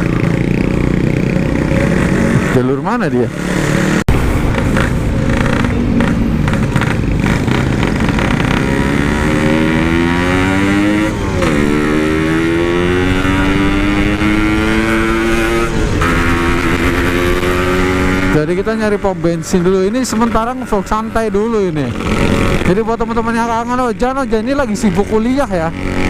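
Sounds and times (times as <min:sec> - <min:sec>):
two-stroke motorcycle accelerating: 0:00.0 - 0:26.0.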